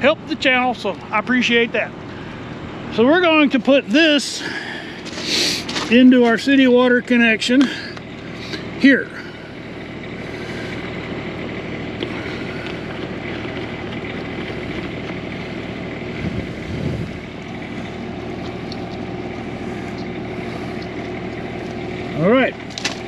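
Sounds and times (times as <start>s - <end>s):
diesel generator humming: 0.0s - 23.0s.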